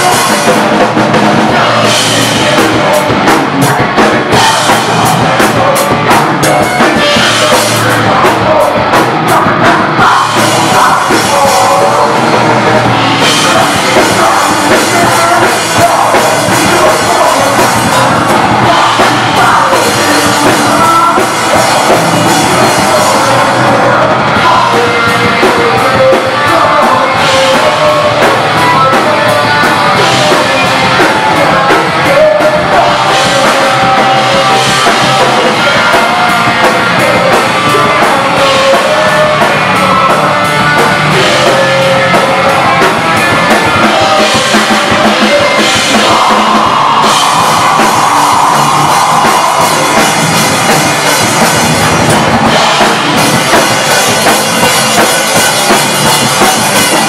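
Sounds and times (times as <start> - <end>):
drum kit: 0.0 - 57.0
electric guitar: 0.0 - 57.0
person singing and yelling: 0.0 - 57.0.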